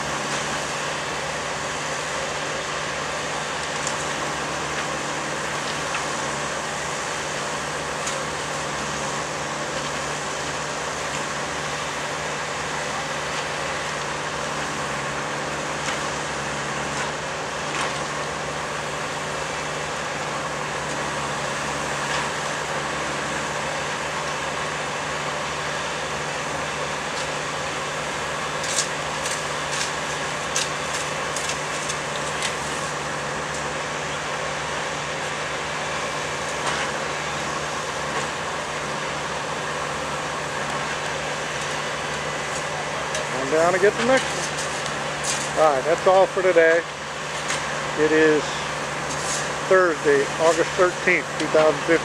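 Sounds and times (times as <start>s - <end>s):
track machinery engine drone: 0.0s - 52.0s.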